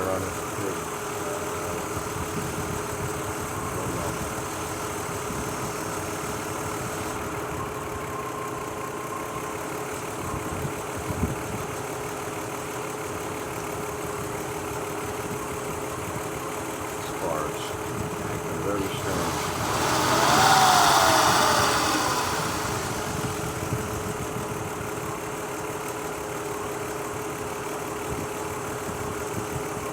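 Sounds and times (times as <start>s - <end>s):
car engine idling with misfire: 0.0s - 29.9s.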